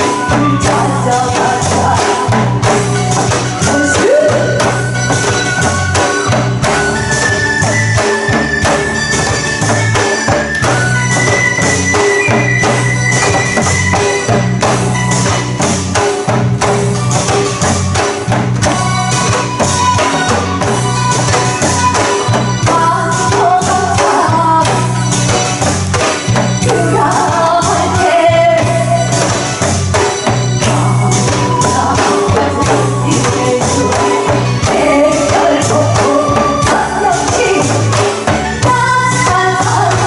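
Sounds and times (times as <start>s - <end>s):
loud instrumental music: 0.0s - 40.0s.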